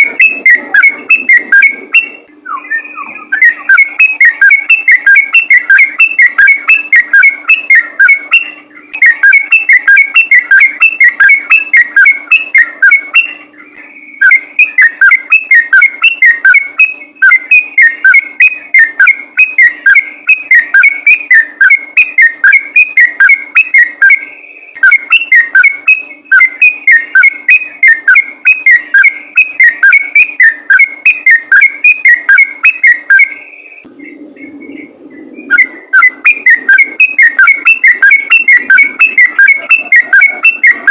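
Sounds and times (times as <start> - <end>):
bulbul singing whistled notes: 0.0 - 40.9.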